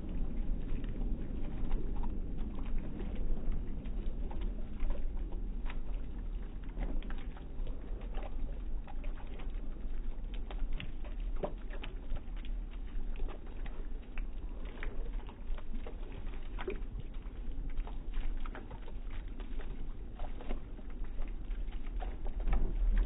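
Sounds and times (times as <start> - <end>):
fountain water splashing in basin: 0.0 - 23.0.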